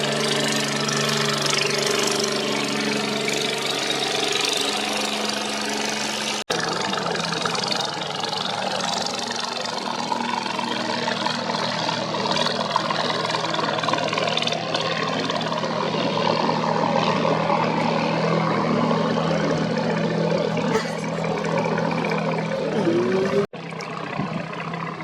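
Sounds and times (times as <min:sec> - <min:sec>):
racing boat engines droning: 0:00.0 - 0:25.0.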